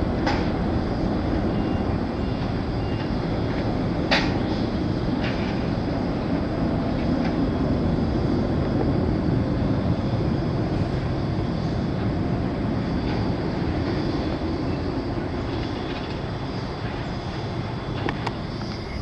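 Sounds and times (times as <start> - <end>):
jet airliner engines rumbling: 0.0 - 19.0.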